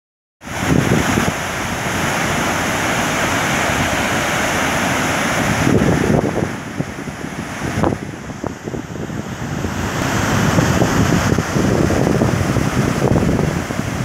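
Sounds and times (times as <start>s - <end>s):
waterfall rushing over rock: 0.4s - 14.0s
wind buffeting microphone: 0.5s - 4.3s, 5.2s - 14.0s.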